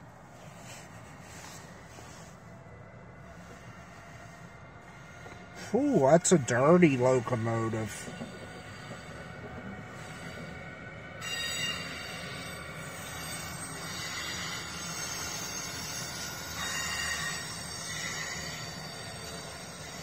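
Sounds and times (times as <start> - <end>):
train wheels rumbling and clattering: 0.0 - 20.0
high squealing of wheels: 3.3 - 20.0.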